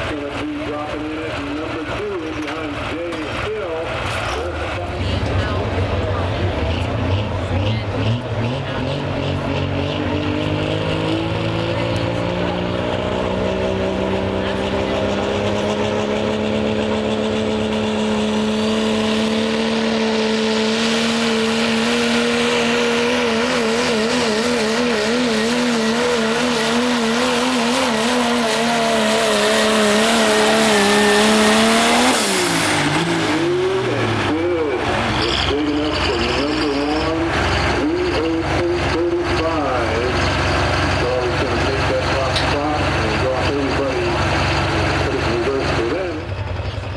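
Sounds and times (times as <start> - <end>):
diesel truck engine at full throttle: 0.0 - 46.9.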